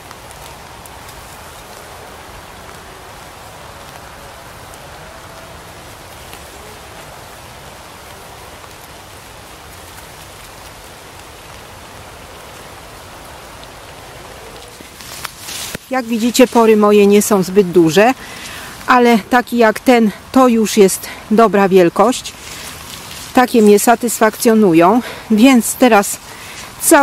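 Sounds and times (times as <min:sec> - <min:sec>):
rain falling steadily: 0:00.0 - 0:27.0.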